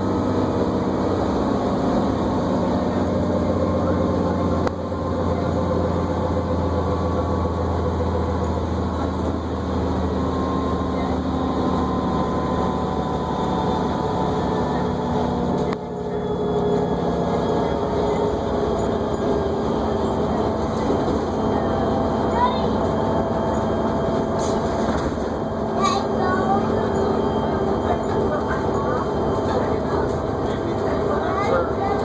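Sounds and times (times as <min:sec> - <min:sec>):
bus engine drone with whine: 0:00.0 - 0:32.0.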